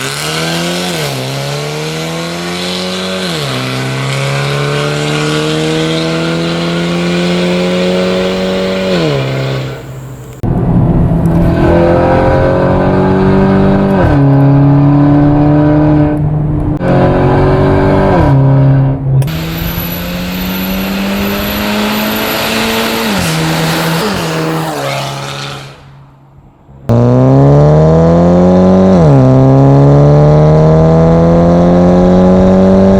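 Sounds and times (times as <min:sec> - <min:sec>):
car engine accelerating hard: 0:00.0 - 0:25.9, 0:26.9 - 0:32.9.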